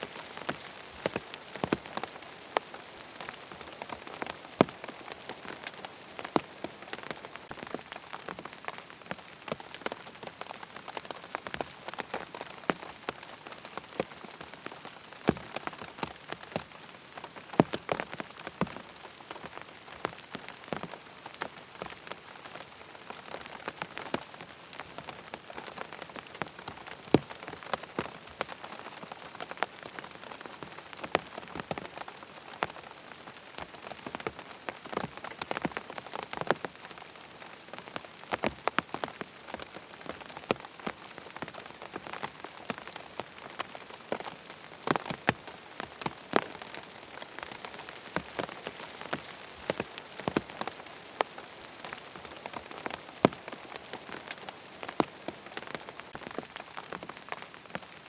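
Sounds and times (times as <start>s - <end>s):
sharp raindrops landing: 0.0s - 58.0s
steady rain falling: 0.0s - 58.0s.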